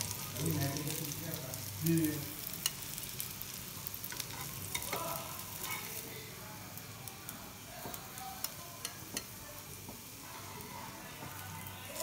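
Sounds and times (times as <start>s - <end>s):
oil sizzling and popping: 0.0s - 12.0s.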